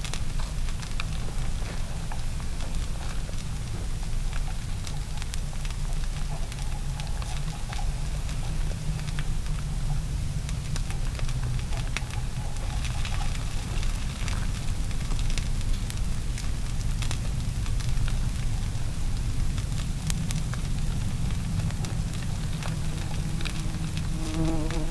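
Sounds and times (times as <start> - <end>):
mud crackling and popping: 0.0 - 24.9.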